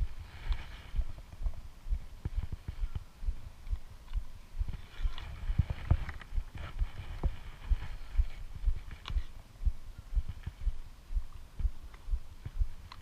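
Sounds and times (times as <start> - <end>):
low thumps: 0.0 - 13.0.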